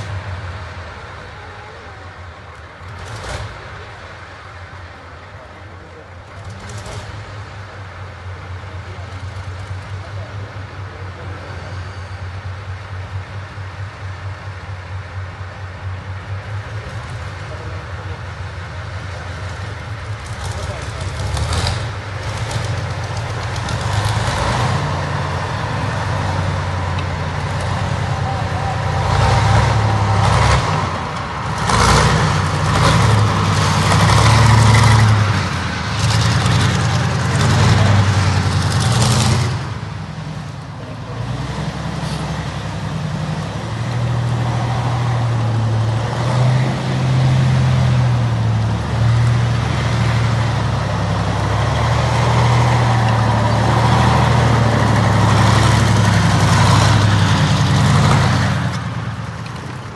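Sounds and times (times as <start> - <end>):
tank diesel engine running: 0.0 - 59.9.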